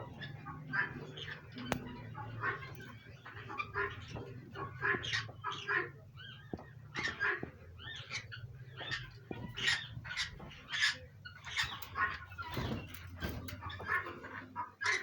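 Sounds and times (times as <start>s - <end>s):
cockatiels chirping: 0.0s - 15.0s.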